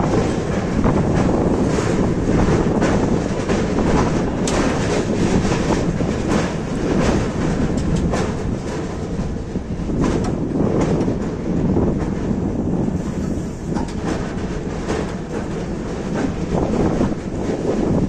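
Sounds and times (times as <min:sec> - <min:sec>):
train rumbling: 0:00.0 - 0:18.0
wheels clicking over rail joints: 0:00.0 - 0:18.0.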